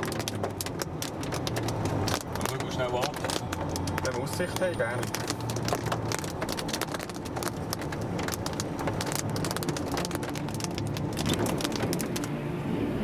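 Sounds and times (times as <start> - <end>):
rain ticking on a car: 0.0 - 12.4
vehicle low hum: 0.0 - 13.0.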